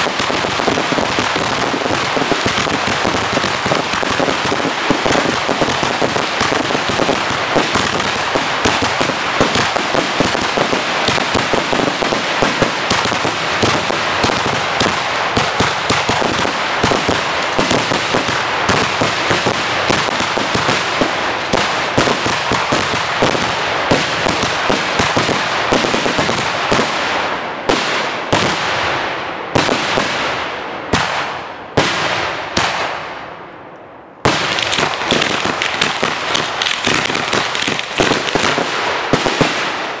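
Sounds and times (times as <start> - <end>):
fireworks crackling and banging: 0.0 - 33.3, 34.2 - 40.0.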